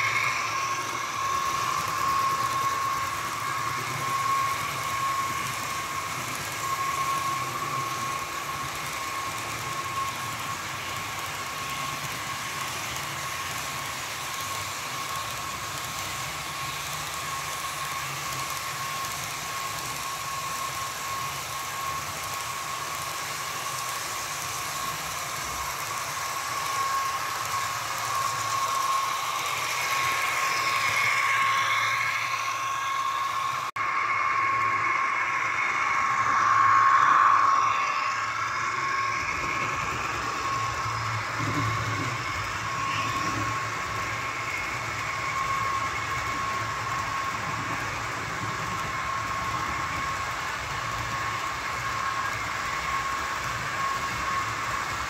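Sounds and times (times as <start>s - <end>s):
model train motor whine: 0.0s - 55.0s.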